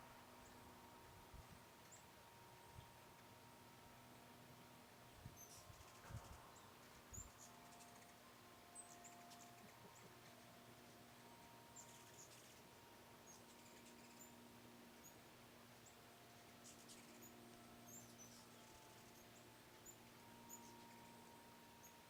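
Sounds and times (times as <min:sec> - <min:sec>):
hummingbirds chipping and twittering: 0:00.0 - 0:22.0.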